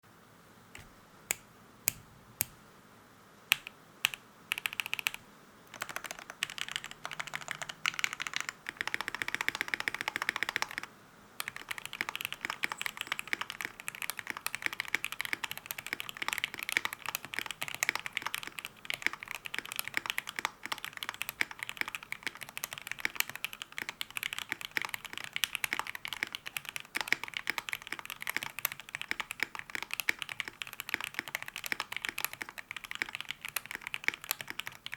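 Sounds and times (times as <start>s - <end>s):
mechanical keyboard typing: 3.5s - 34.9s.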